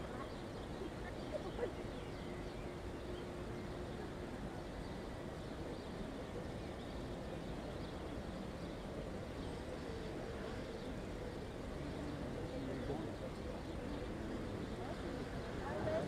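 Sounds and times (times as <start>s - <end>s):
faint distant ground sounds: 0.0s - 16.0s
low open-air hush: 0.0s - 16.0s.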